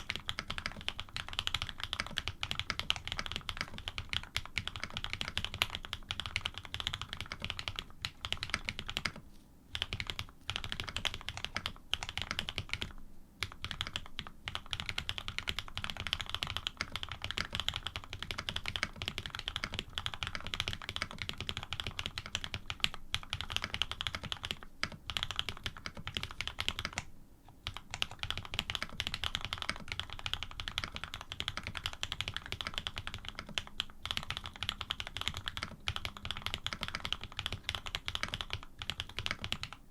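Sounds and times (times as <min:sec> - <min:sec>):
typing on mechanical keyboard: 0:00.0 - 0:39.8.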